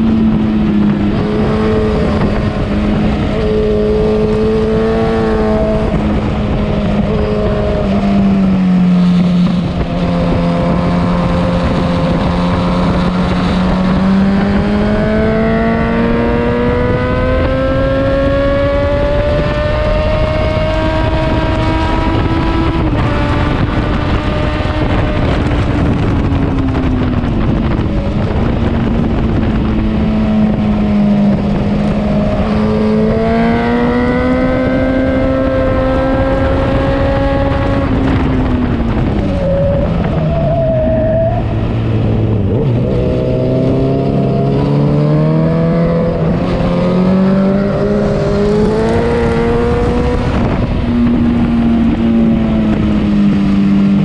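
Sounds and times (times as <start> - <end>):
motorcycle engine revving: 0.0 - 54.0
wind rushing over microphone: 0.0 - 54.0.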